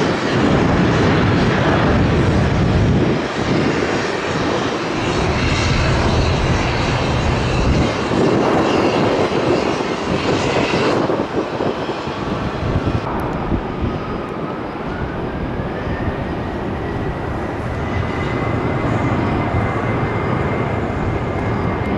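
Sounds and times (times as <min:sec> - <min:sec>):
jet engines running loud: 0:00.0 - 0:21.9.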